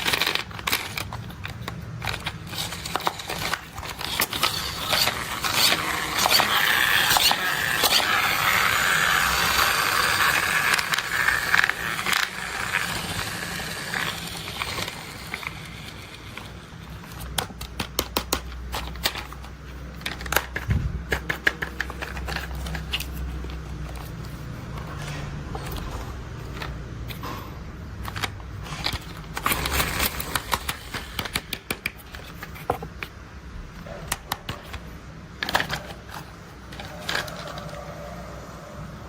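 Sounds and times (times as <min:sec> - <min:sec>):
toys crackling and scraping: 0:00.0 - 0:33.1, 0:33.8 - 0:39.0.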